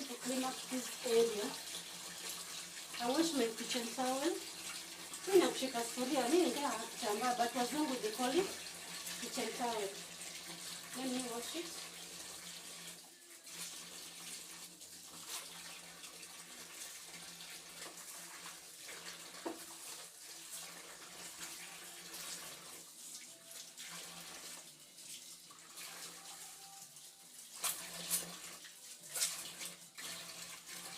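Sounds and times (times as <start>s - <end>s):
tap water running into sink: 0.0s - 30.9s.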